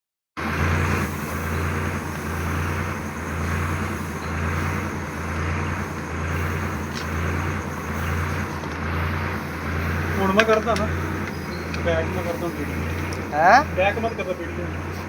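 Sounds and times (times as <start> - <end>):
low machine hum: 0.6 - 15.0
pulsing rushing noise: 0.6 - 15.0.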